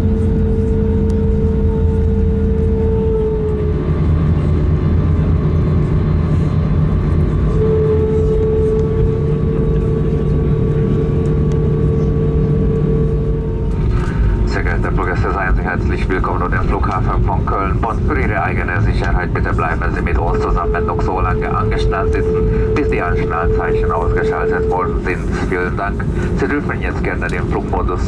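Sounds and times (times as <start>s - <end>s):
jet engines humming in cabin: 0.0s - 28.0s.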